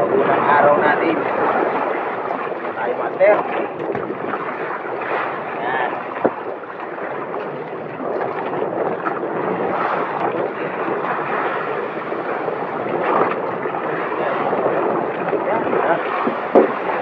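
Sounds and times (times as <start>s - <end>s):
rushing sea water: 0.0s - 17.0s
wind buffeting microphone: 0.0s - 17.0s.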